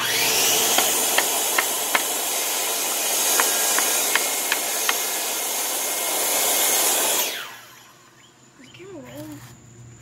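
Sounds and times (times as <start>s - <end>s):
circular saw cutting wood: 0.0s - 8.1s.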